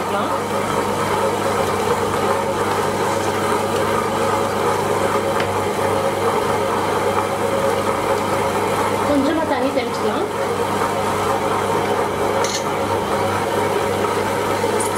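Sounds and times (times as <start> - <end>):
wet grinder motor humming: 0.0 - 14.9.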